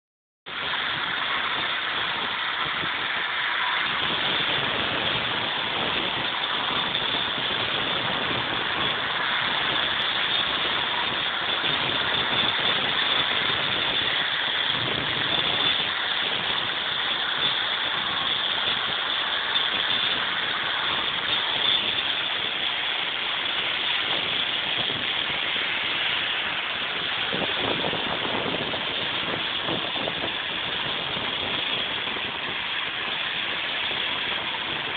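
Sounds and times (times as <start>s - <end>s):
angle grinder cutting mortar: 0.5s - 34.9s.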